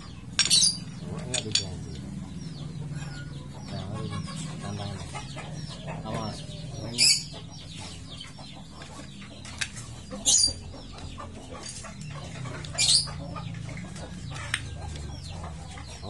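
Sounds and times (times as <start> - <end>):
high bird calls: 0.0 - 16.0.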